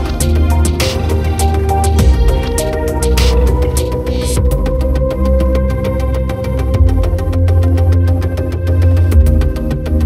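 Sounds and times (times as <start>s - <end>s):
electronic music with ticking beat: 0.0s - 10.0s.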